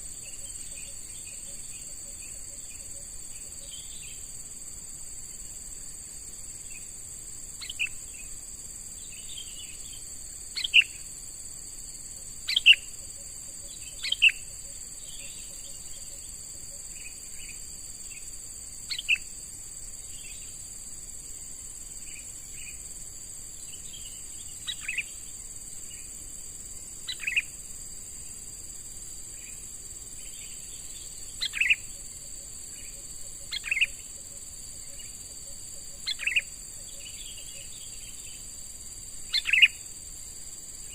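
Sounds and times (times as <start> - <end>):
high-pitched insect drone: 0.0 - 40.9.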